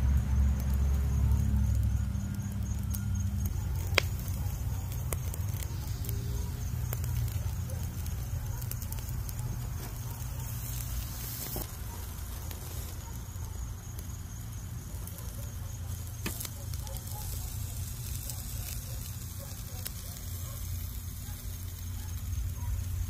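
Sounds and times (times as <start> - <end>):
charcoal crackling and popping: 0.0 - 23.0
meat sizzling on grill: 0.0 - 23.0.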